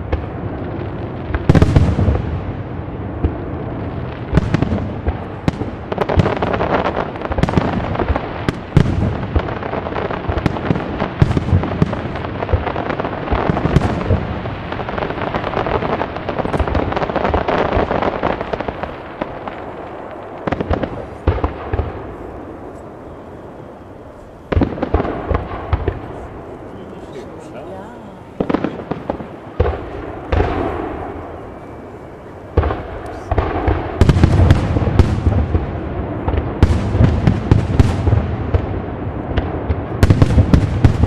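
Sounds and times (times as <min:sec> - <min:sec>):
fireworks crackling: 0:00.0 - 0:41.0.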